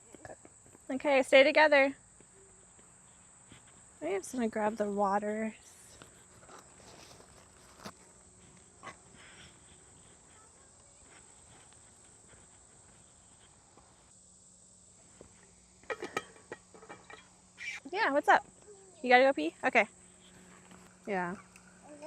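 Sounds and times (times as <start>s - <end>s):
low background noise: 0.0s - 22.0s.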